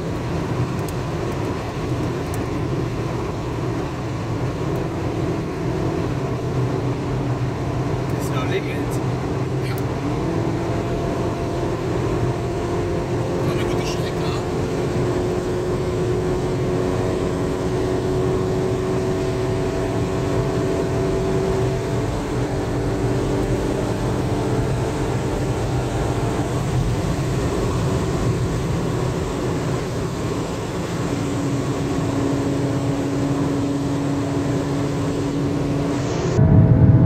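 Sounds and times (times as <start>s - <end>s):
car engine drone: 0.0s - 37.0s
road and wind noise: 0.0s - 37.0s.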